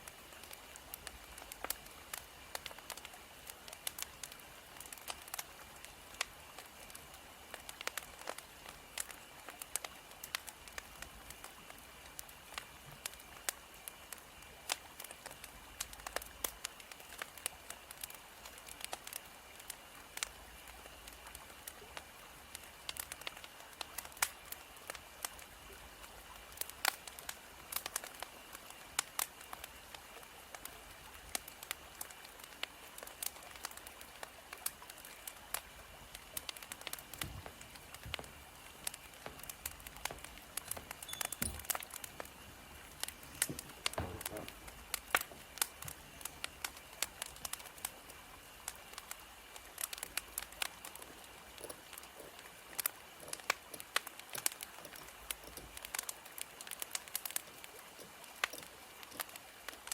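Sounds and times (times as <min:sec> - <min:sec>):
steady hiss: 0:00.0 - 0:59.9
wood fire crackling: 0:00.0 - 0:59.9.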